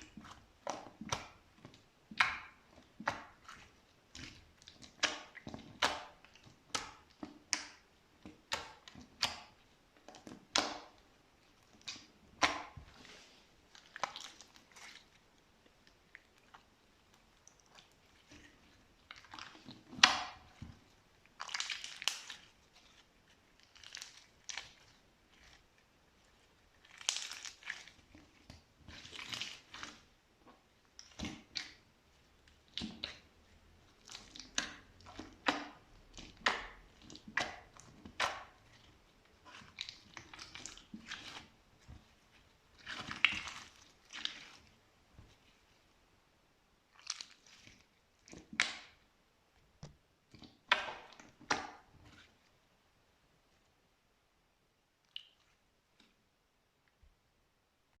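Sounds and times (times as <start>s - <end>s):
slime squishing and crackling: 0.0s - 45.9s, 46.8s - 49.0s, 50.2s - 52.4s.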